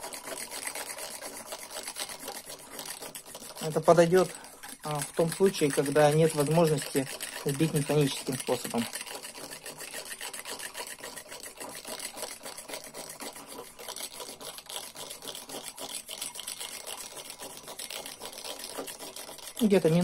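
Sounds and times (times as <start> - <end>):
cable frother whirring in mug: 0.0 - 20.0.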